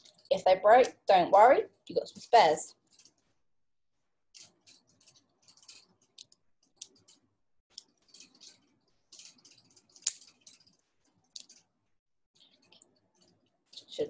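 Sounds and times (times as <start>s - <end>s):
wooden sticks clicking and rubbing: 0.0s - 1.2s, 1.9s - 3.3s, 4.3s - 11.8s, 12.4s - 14.0s.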